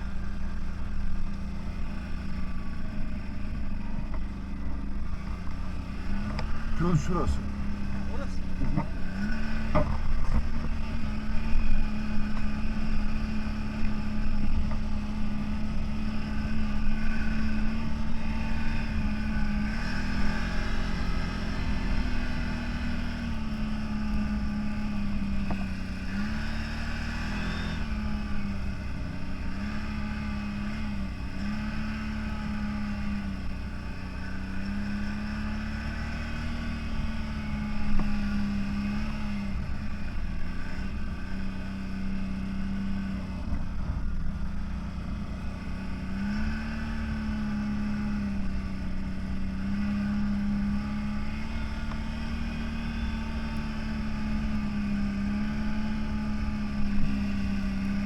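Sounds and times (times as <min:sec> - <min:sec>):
off-road vehicle engine running: 0:00.0 - 0:58.0.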